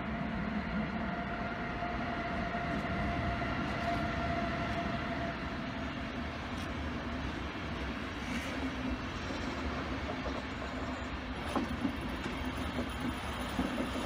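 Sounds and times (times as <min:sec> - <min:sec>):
locomotive whine: 0:00.0 - 0:14.0
train wheels rumbling on rails: 0:00.0 - 0:14.0.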